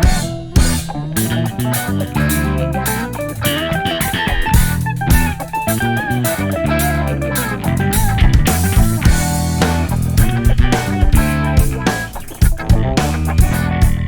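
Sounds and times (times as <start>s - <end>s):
bass guitar: 0.0s - 14.0s
drum kit beat: 0.0s - 14.0s
electric guitar: 0.0s - 14.0s.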